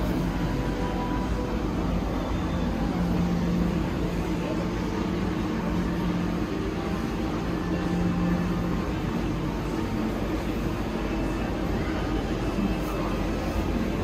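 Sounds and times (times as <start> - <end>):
low rumble and hum of pumps: 0.0 - 14.0.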